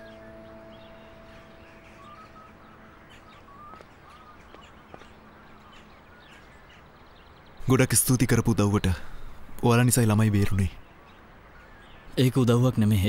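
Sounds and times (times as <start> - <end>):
birds chirping: 0.0 - 13.0
soft held music tones: 0.0 - 13.0.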